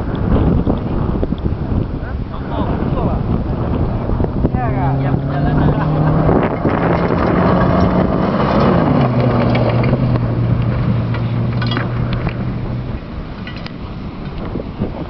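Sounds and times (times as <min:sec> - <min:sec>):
rally car engine running hard: 0:00.1 - 0:13.3.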